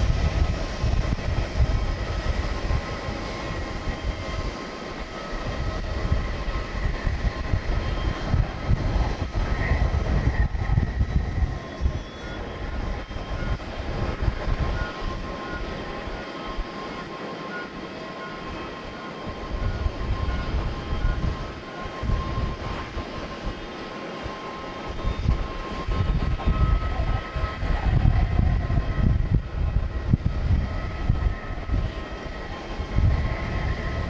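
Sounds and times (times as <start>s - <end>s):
distant jet engines whining: 0.0s - 34.0s
wind rumbling on microphone: 0.0s - 34.0s.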